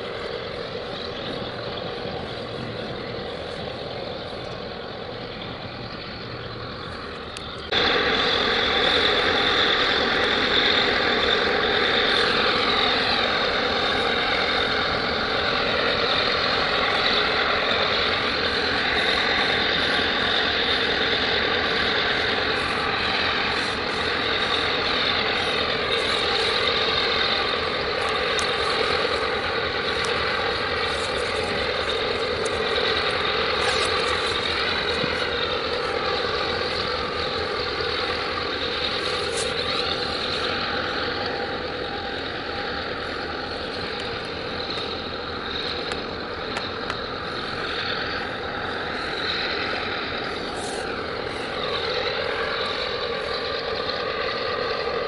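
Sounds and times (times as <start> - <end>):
heavy diesel machinery droning: 0.0 - 55.0.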